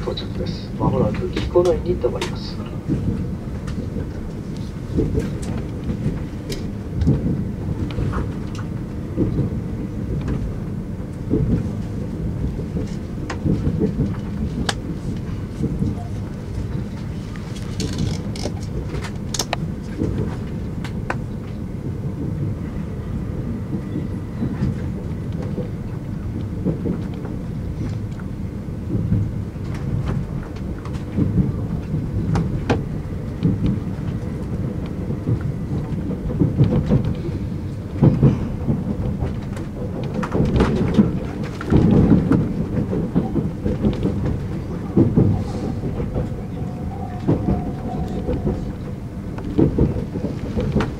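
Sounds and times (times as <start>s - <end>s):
rail joint clicks: 0.0s - 50.9s
train wheels rumbling on rail: 0.0s - 50.9s.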